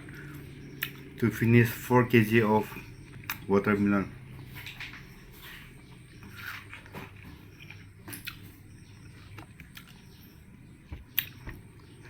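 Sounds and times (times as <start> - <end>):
person chewing watermelon: 0.0 - 12.0.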